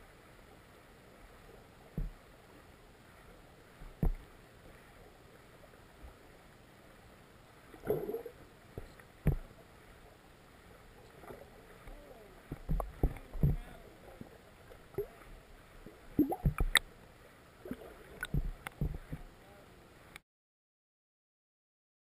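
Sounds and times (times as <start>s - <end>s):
muffled river water murmur: 0.0s - 20.2s.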